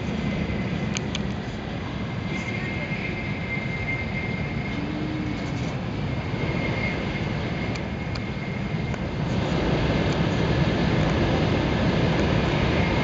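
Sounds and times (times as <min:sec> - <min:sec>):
faint high whine: 0:00.0 - 0:13.0
train running rumble: 0:00.0 - 0:13.0.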